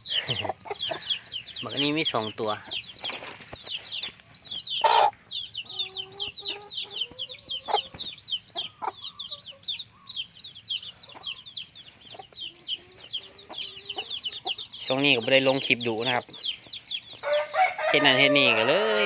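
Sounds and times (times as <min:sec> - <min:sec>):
chicks peeping: 0:00.0 - 0:19.0
hen clucking: 0:00.0 - 0:19.0.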